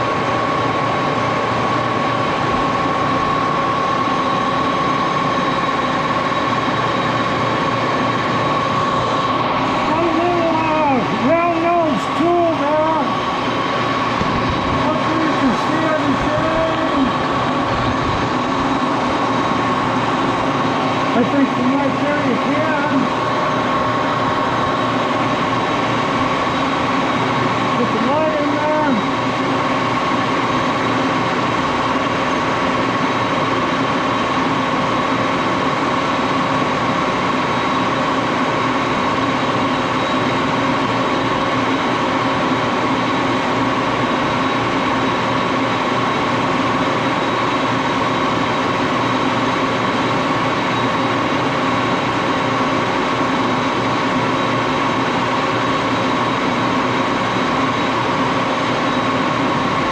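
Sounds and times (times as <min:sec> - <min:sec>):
engine lathe humming: 0:00.0 - 0:59.9.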